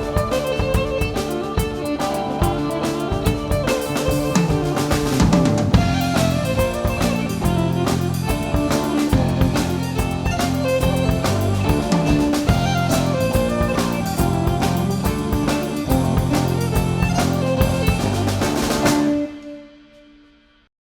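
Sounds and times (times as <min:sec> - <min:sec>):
steady drum beat: 0:00.0 - 0:19.3
folk-rock band playing a jig: 0:00.0 - 0:19.7.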